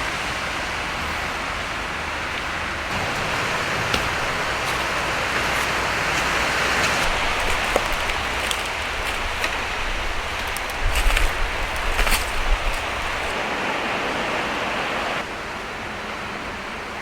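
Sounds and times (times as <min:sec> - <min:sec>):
sea surf washing on shore: 0:00.0 - 0:17.0.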